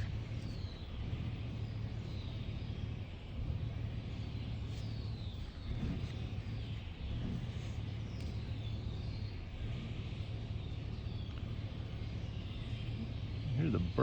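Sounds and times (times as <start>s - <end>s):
birds chirping faintly: 0.0s - 14.0s
steady low drone: 0.0s - 14.0s.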